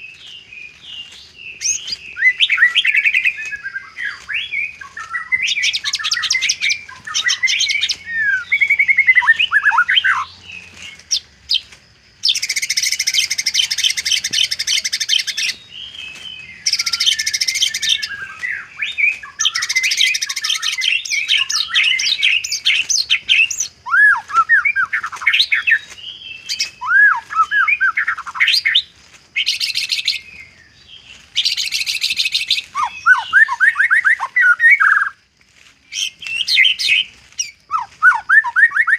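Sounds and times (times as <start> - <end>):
bird singing whistles and trills: 0.0 - 35.2, 35.9 - 38.9.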